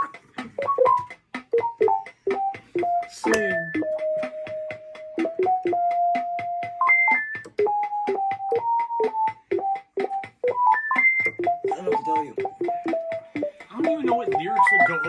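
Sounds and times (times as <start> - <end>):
built-in keyboard beat ticking: 0.0 - 15.0
electronic keyboard melody: 0.0 - 15.0.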